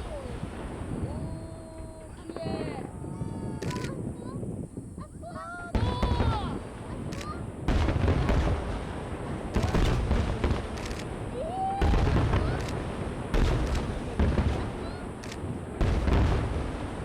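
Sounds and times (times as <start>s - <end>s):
fireworks bursting with booms: 0.0s - 17.0s.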